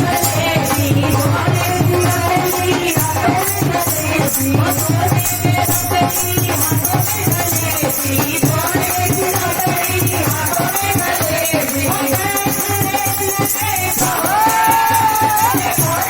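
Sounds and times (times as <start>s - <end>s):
shaken jingling percussion: 0.0s - 16.0s
steady drum beat: 0.0s - 16.0s
wavering devotional melody: 0.0s - 16.0s.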